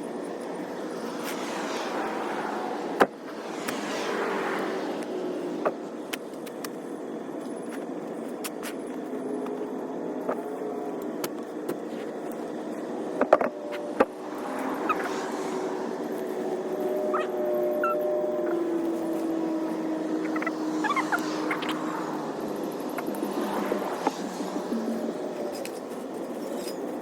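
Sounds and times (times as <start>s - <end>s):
motor vehicle noise: 0.0s - 27.0s.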